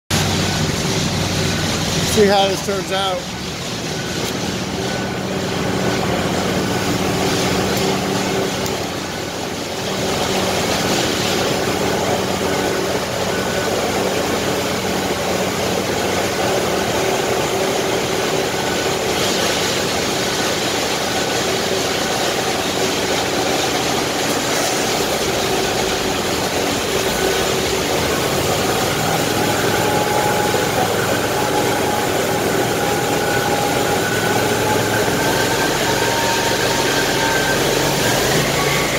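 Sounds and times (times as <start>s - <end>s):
high machine whine: 0.1s - 38.9s
concrete saw droning: 3.8s - 38.9s.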